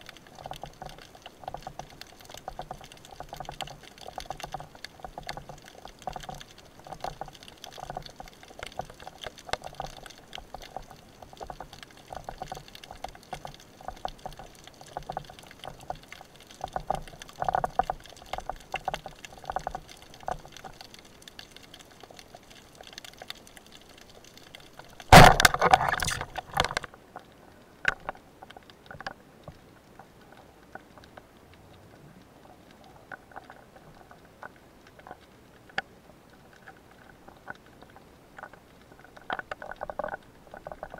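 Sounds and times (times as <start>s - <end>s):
underwater crackle of clicks: 0.0s - 40.9s
water swishing: 0.0s - 40.9s.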